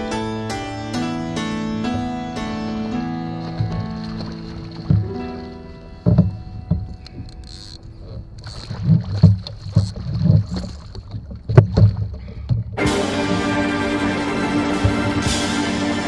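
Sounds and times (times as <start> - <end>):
waves slapping against kayak hull: 1.9 - 15.8.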